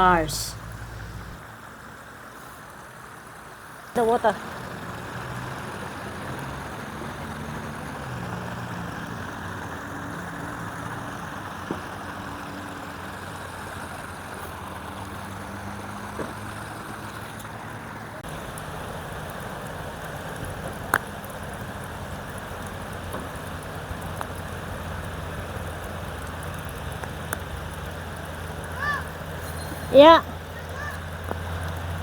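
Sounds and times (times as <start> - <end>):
faint low engine hum: 0.0 - 32.0.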